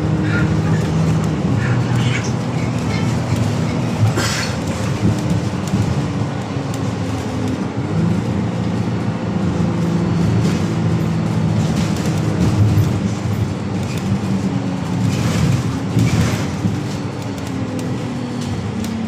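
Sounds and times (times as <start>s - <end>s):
engine running with low hum: 0.0s - 19.0s.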